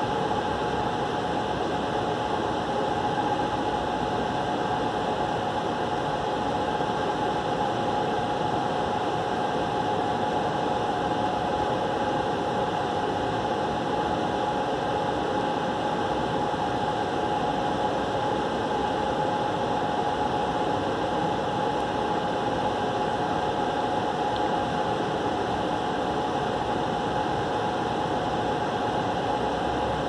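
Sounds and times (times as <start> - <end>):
constant high whine: 0.0 - 30.0
fan-like hum and hiss: 0.0 - 30.0.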